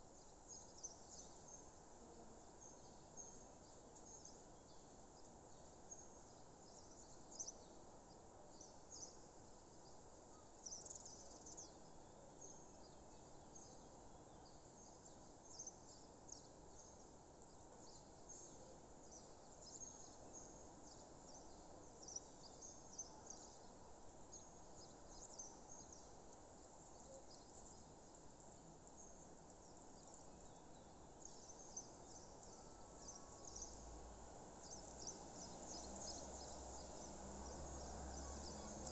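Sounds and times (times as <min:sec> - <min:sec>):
soft steady hiss: 0:00.0 - 0:38.9.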